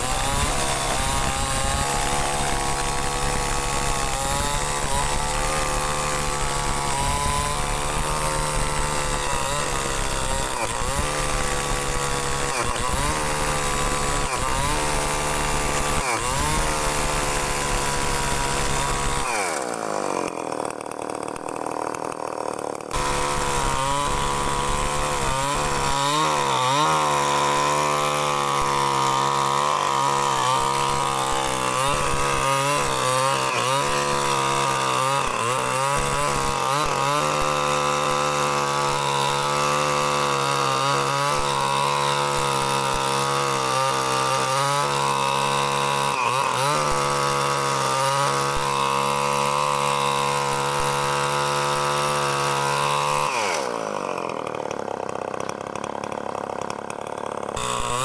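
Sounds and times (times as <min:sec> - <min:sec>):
chainsaw engine running hard: 0:00.0 - 0:58.0.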